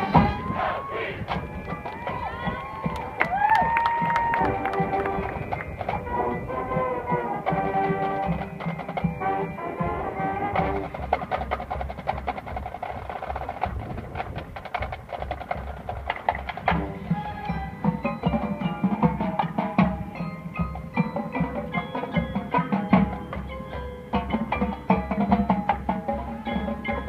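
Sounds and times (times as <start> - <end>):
marching band playing: 0.0 - 27.0.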